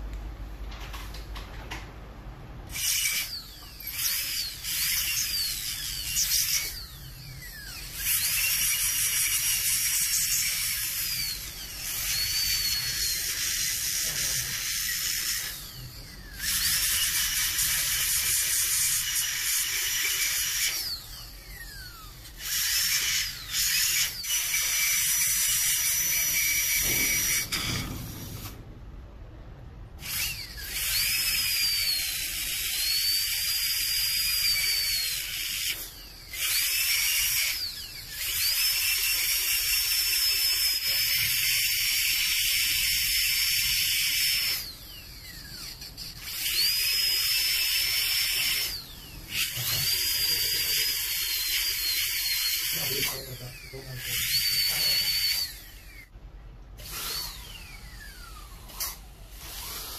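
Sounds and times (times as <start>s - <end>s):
dental drill whine: 2.7s - 28.6s, 30.0s - 56.1s, 56.8s - 59.9s.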